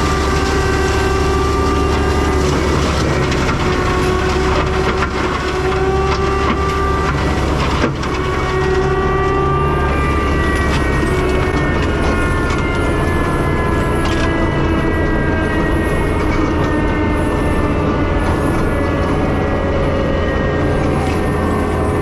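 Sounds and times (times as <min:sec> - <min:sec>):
loader engine running: 0:00.0 - 0:22.0
mulcher drum whine: 0:00.0 - 0:22.0
wood cracking: 0:00.0 - 0:22.0.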